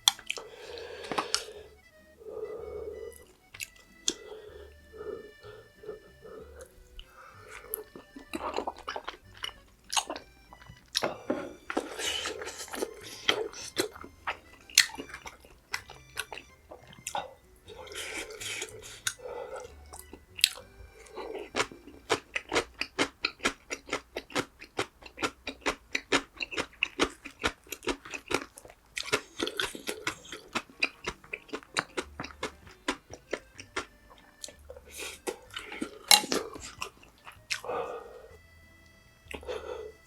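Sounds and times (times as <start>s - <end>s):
wet mouth clicks: 0.0s - 1.8s, 2.4s - 38.4s, 39.3s - 40.0s
food chewing: 0.0s - 40.0s.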